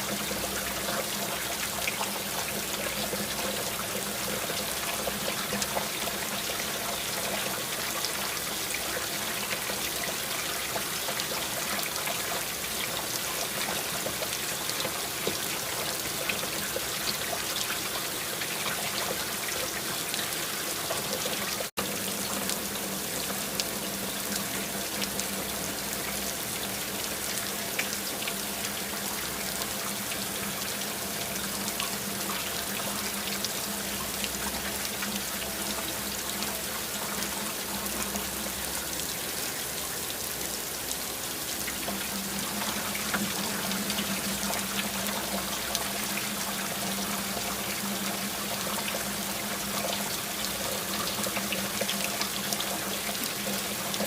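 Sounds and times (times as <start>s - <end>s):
splashing water flow: 0.0s - 54.0s
steady rain hissing: 0.0s - 54.0s.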